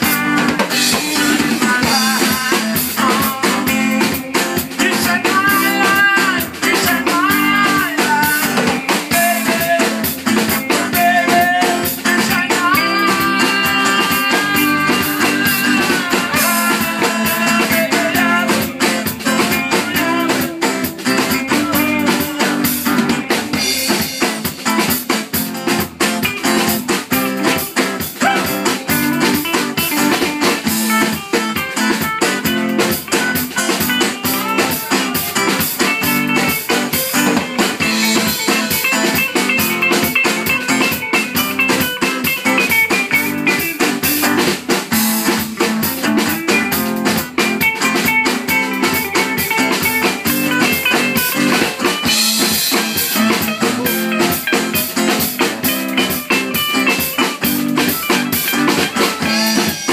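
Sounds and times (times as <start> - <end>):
drum kit busy beat: 0.0 - 59.9
electric guitars: 0.0 - 59.9.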